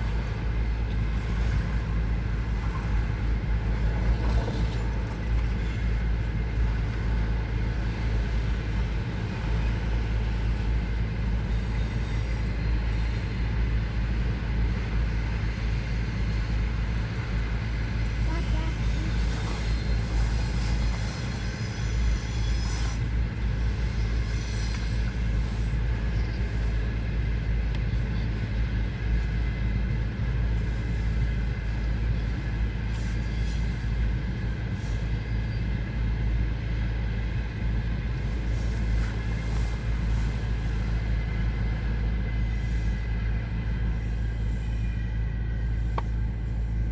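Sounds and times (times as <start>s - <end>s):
train rumbling on rails: 0.0s - 46.9s.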